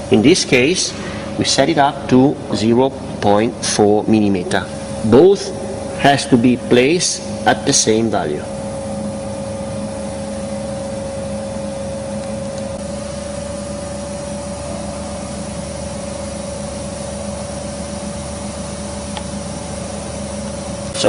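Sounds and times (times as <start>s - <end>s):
machine motor hum with whine: 0.0s - 21.0s.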